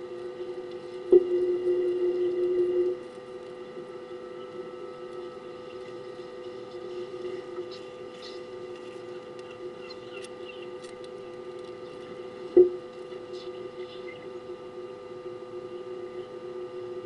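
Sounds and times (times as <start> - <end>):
faint crackles: 0.0 - 14.7
electrical hum: 0.0 - 17.0.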